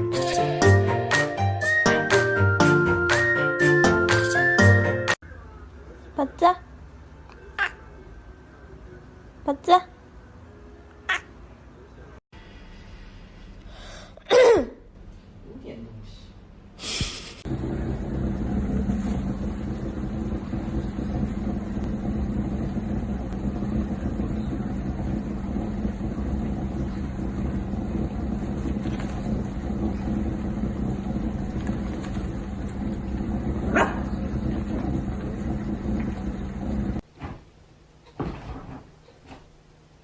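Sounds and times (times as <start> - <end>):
steady mechanical hum: 5.2 - 40.0.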